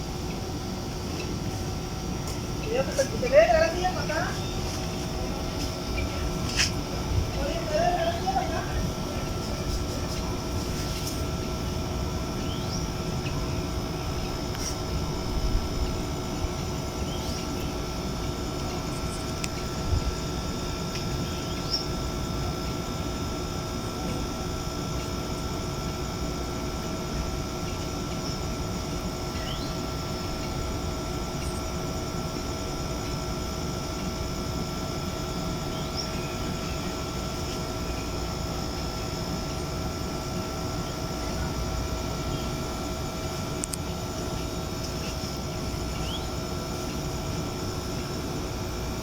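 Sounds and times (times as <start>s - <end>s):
low rumble with mechanical hum: 0.0s - 49.0s.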